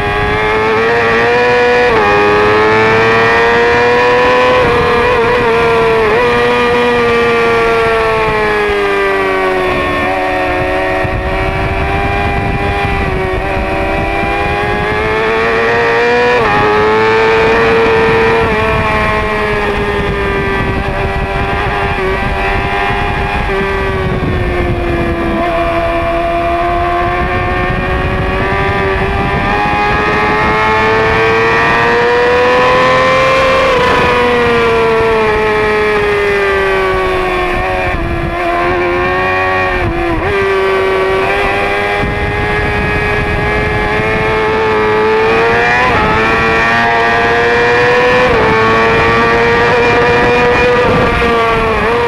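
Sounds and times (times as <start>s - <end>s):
motorcycle engine revving high: 0.0s - 52.0s
wind rush on microphone: 0.0s - 52.0s.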